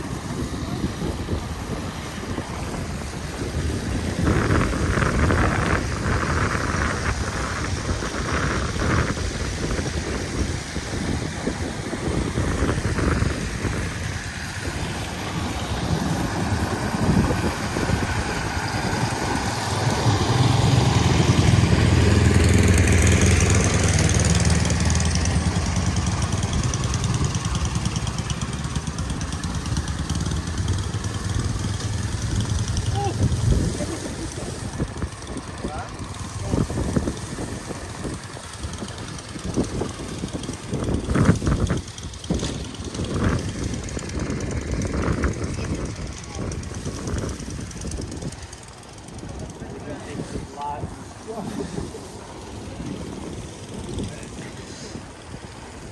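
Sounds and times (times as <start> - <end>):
heavy vehicle rumble: 0.0 - 55.9
traffic engines and road noise: 0.0 - 55.9.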